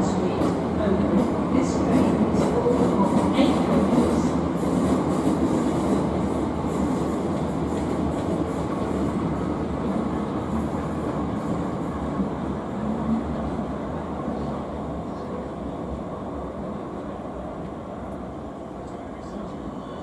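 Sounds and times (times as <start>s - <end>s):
electric train rail rumble: 0.0s - 20.0s.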